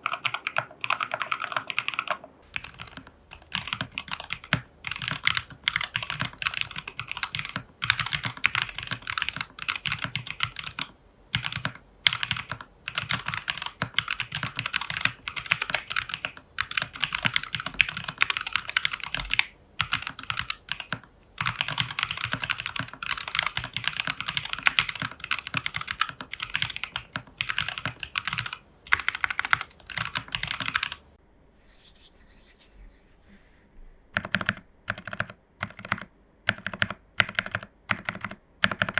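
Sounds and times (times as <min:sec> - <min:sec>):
mechanical keyboard typing: 0:00.0 - 0:31.0, 0:34.2 - 0:38.9.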